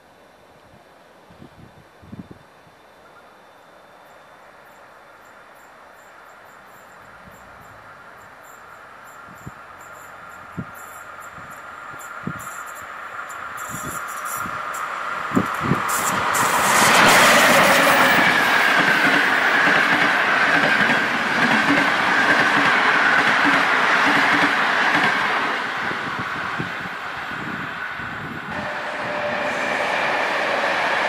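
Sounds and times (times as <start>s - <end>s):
distant train: 0.0s - 31.0s
train passing with clickety-clack: 5.6s - 31.0s.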